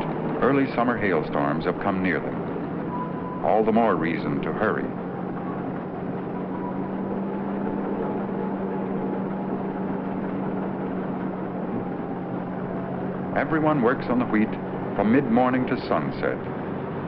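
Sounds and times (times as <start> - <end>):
combine harvester running: 0.0 - 17.0
low hum: 0.0 - 17.0.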